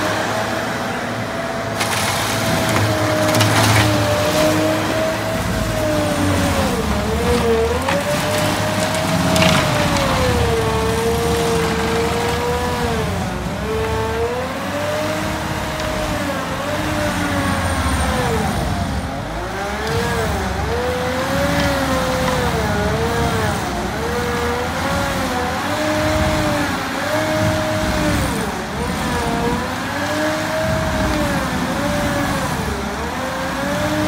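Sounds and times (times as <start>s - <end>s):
diesel engine at high revs: 0.0s - 34.0s
stump grinder whining: 0.0s - 34.0s.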